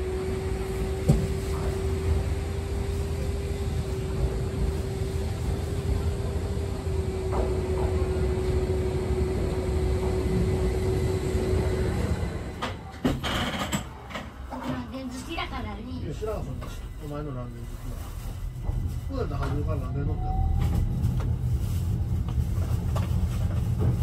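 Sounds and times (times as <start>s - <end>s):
train low rumble: 0.0s - 24.0s.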